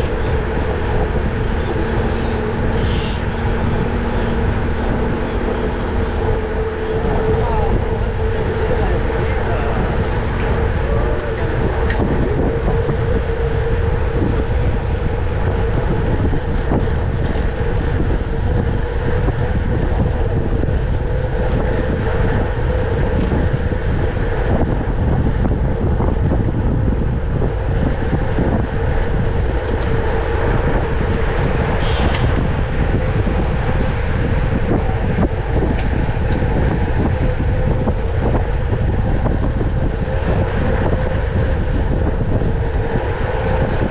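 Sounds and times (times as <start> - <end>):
steady hum: 0.0 - 43.9
wind rushing over microphone: 0.0 - 43.9.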